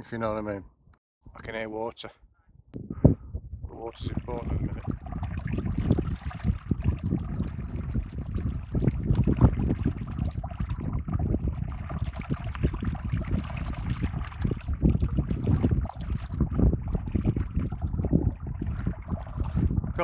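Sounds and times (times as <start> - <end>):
wind buffeting microphone: 2.5 - 20.0
stream trickling: 3.7 - 20.0.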